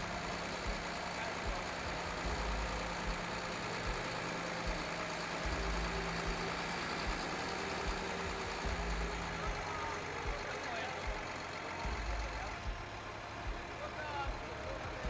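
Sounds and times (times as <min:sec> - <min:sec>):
low rumbles: 0:00.0 - 0:15.0
traffic noise: 0:00.0 - 0:15.0
vehicle engine idling: 0:00.0 - 0:15.0.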